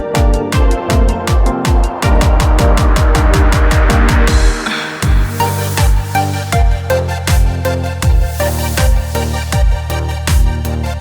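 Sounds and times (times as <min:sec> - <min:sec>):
kick drum beat: 0:00.0 - 0:10.7
electronic music: 0:00.0 - 0:11.0.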